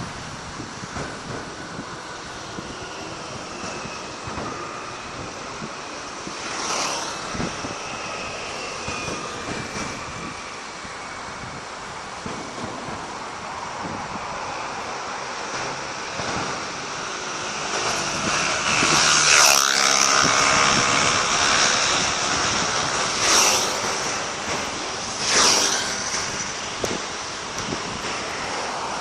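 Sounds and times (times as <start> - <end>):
fireworks rumble: 0.0 - 19.3, 19.9 - 29.0
fireworks hissing and crackling: 0.0 - 29.0.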